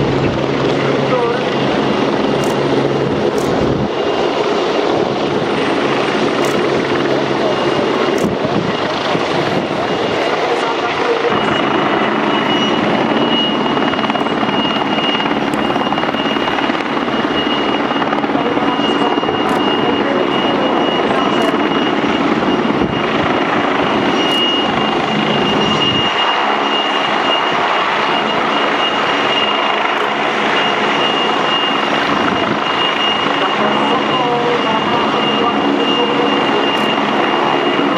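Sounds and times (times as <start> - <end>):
helicopter engine and rotor: 0.0 - 37.9.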